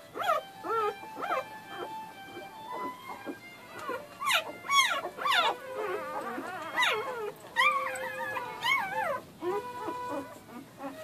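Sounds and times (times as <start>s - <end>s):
puppies whining and squealing: 0.0s - 11.0s.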